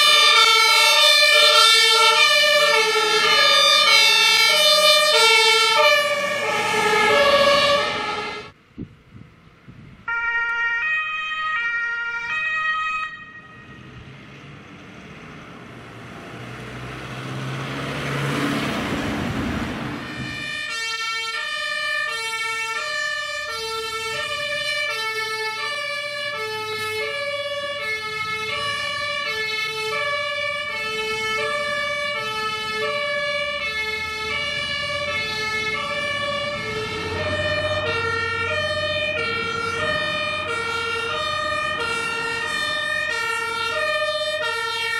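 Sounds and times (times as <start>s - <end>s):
two-tone siren: 0.0s - 8.6s, 10.1s - 14.1s, 19.6s - 44.9s
vehicle engines humming: 0.0s - 10.2s, 13.0s - 44.9s
vehicle passing with road noise: 0.0s - 44.9s.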